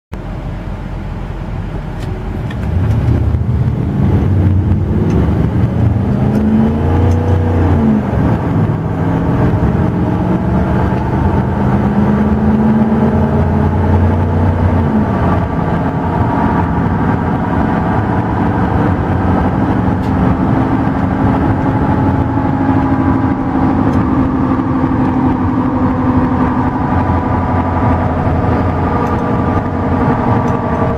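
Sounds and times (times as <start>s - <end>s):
truck engine accelerating: 0.1s - 30.9s.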